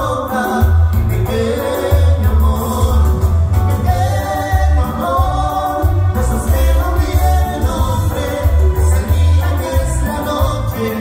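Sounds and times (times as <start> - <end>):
lead vocal singing: 0.0 - 11.0
live band playing dance music: 0.0 - 11.0
pulsing bass line: 0.0 - 11.0.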